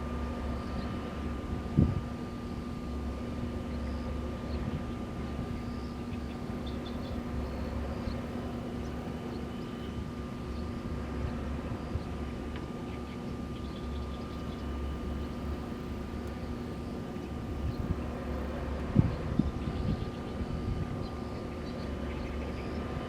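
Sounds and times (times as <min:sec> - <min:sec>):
wind turbines humming: 0:00.0 - 0:23.0.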